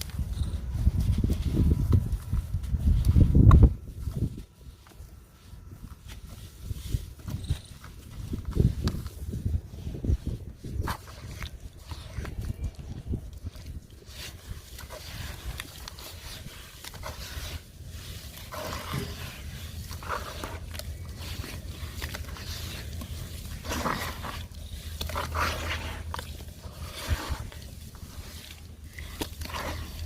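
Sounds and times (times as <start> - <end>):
gritty crunching and scraping: 0.0 - 30.0.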